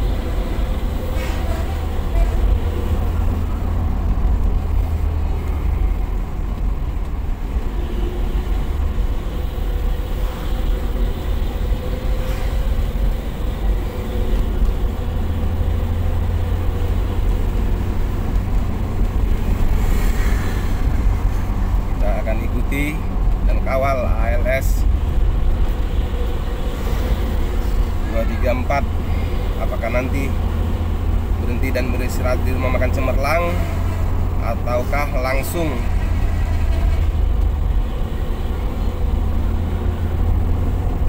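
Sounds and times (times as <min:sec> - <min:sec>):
vehicle driving rumble: 0:00.0 - 0:41.0.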